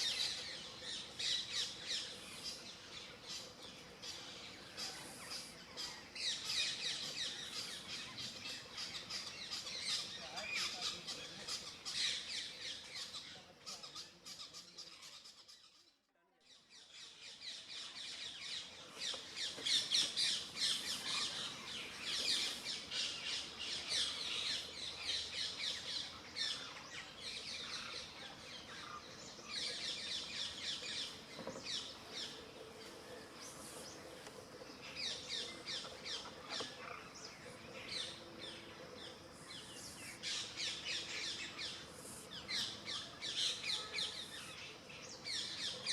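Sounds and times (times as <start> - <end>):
birds chirping and squawking: 0.0 - 15.8, 17.0 - 45.9.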